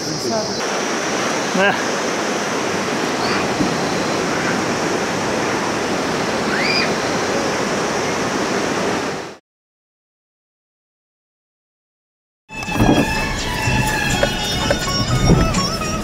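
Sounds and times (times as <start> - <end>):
flowing water rushing: 0.0 - 9.4, 12.5 - 16.0.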